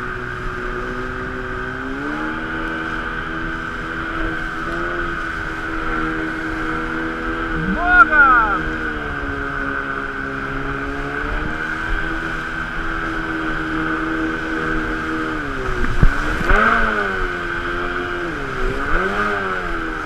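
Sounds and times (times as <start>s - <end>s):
outboard motor running hard: 0.0s - 20.0s
water rushing around hull: 0.0s - 20.0s.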